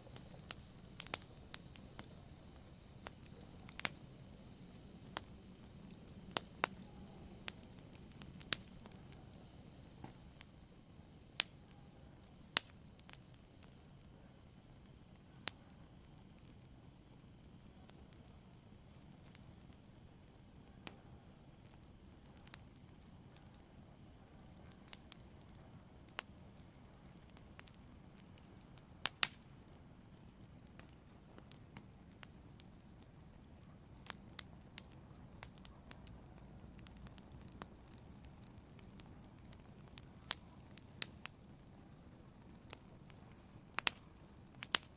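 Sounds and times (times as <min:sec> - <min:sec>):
fireplace flames hissing: 0:00.0 - 0:44.9
wood crackles and pops: 0:00.0 - 0:44.9.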